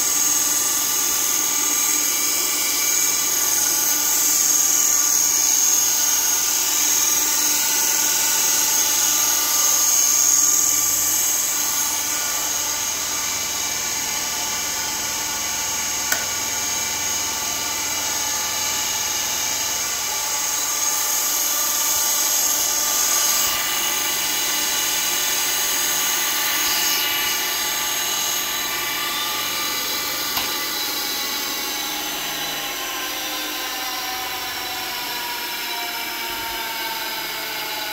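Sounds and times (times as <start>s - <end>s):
grinder machine whine: 0.0s - 37.9s.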